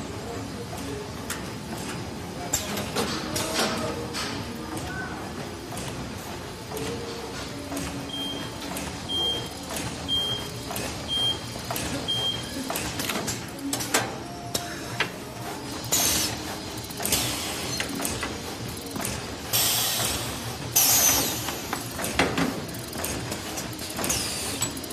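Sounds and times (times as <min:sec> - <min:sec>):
machine clattering: 0:00.8 - 0:14.2, 0:15.0 - 0:24.9.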